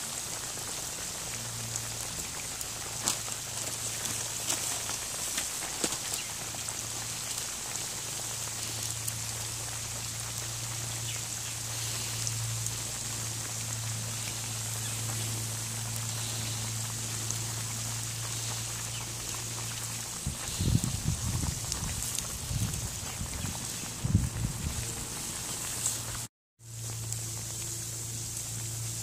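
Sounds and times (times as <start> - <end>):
fish deep-frying in oil: 0.0 - 29.0
steady low hum: 0.0 - 29.0.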